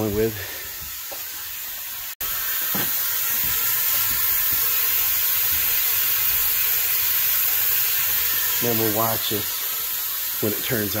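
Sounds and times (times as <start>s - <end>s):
hose water pouring into basin: 0.0s - 11.0s.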